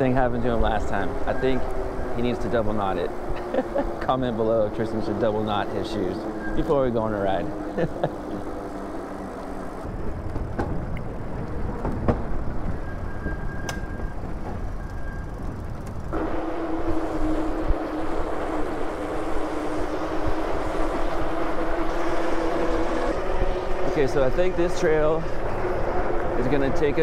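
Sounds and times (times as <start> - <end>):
steady motor hum: 0.0 - 13.3, 14.7 - 27.0
electric bike rolling rumble: 0.0 - 27.0.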